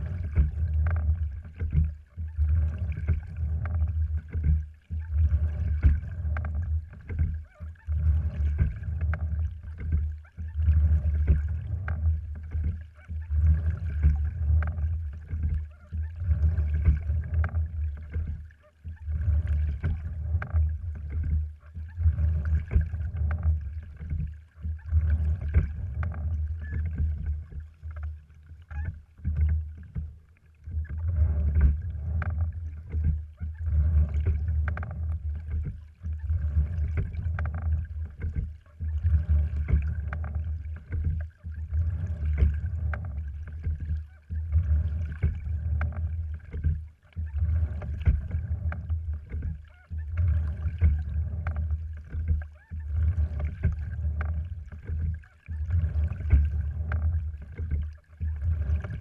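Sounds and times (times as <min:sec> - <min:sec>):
oar splashes: 0:00.0 - 0:59.0
oars and rigging knocking: 0:00.0 - 0:59.0
water rushing along hull: 0:00.0 - 0:59.0.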